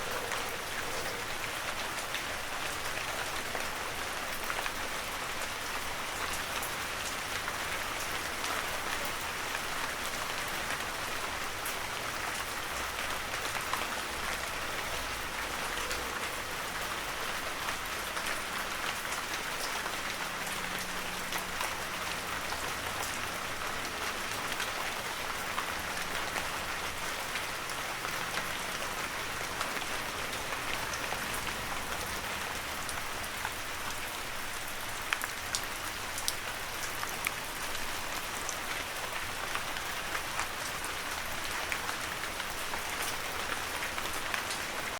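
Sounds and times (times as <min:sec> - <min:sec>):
heavy rain on forest: 0:00.0 - 0:44.9.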